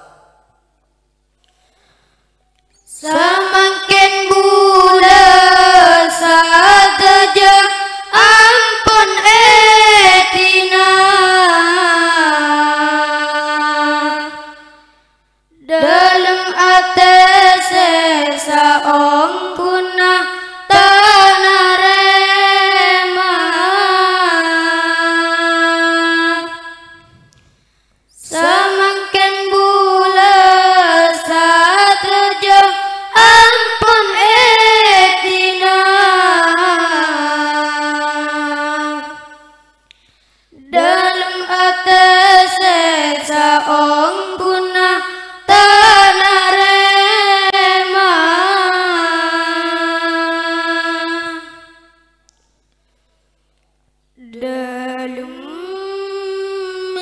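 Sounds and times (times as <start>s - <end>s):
boy singing a long note: 2.9s - 27.4s, 28.1s - 39.8s, 40.6s - 52.2s, 54.2s - 57.0s.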